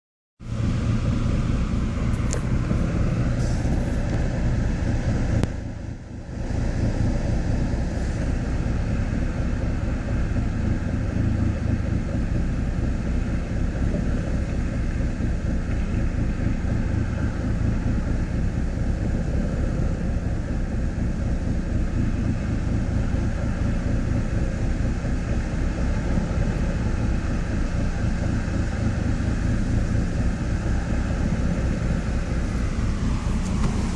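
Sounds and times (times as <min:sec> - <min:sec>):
car engine idling roughly: 0:00.4 - 0:33.9.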